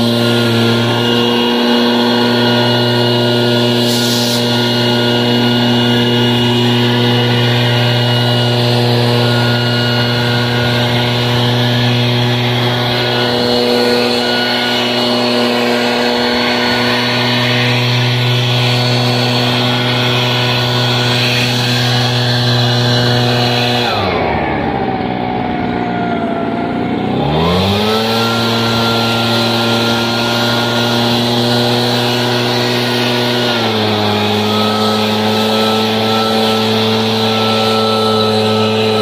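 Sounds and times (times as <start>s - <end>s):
leaf blower running: 0.0s - 39.0s.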